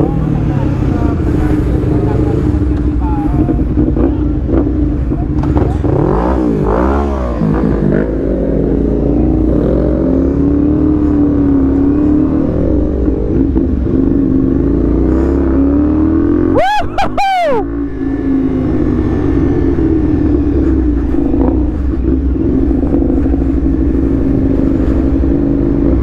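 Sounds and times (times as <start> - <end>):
motorcycle engine running: 0.0 - 16.6, 17.6 - 26.0.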